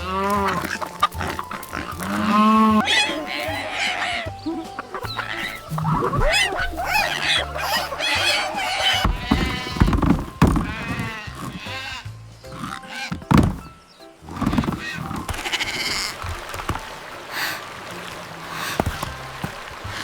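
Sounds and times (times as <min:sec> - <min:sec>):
cartoon background music: 0:00.0 - 0:20.0
wavering animal calls: 0:00.0 - 0:20.0.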